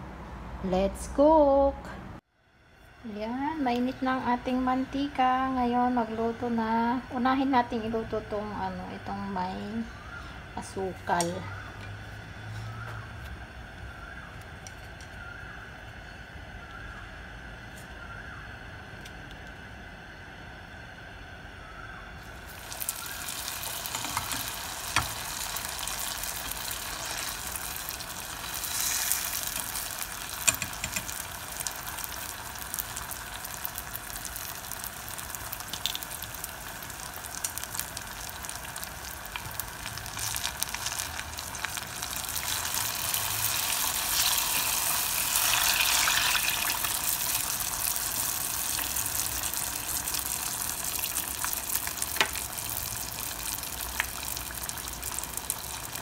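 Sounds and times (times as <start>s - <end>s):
hot oil sizzling: 2.6s - 56.0s.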